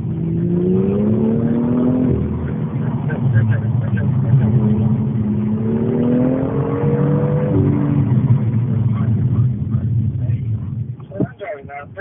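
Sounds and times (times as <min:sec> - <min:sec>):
car engine accelerating: 0:00.0 - 0:12.0
low road rumble: 0:00.0 - 0:12.0.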